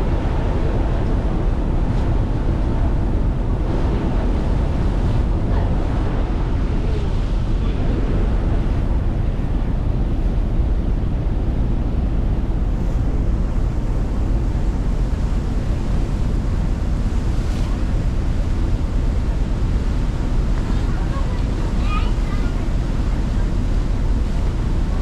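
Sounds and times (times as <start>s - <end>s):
rushing water: 0.0s - 25.0s
wind buffeting microphone: 0.0s - 25.0s.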